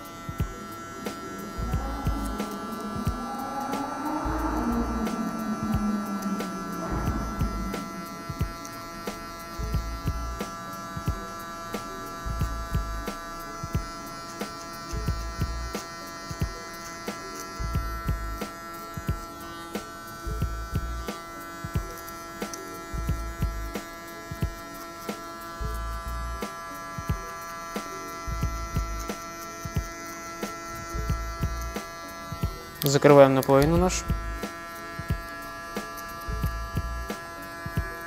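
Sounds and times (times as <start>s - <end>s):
background music with deep beat: 0.0s - 33.0s, 33.6s - 38.0s
electric hair clipper buzzing: 0.0s - 38.0s.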